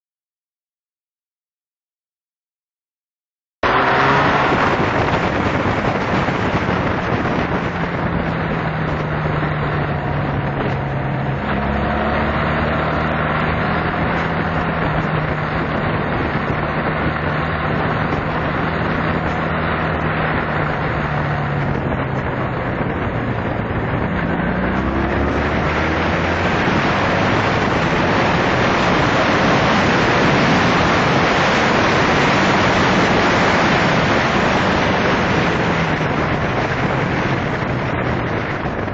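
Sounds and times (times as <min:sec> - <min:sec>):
motorcycle engine running: 0:03.6 - 0:38.9
wind rush on microphone: 0:03.6 - 0:38.9.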